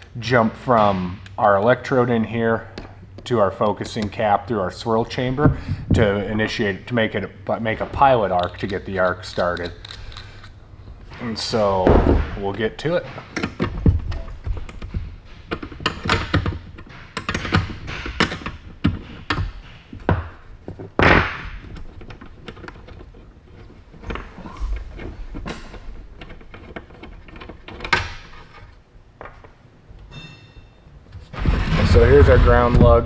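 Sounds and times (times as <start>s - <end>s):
knocks and scrapes of handling: 5.0s - 33.0s.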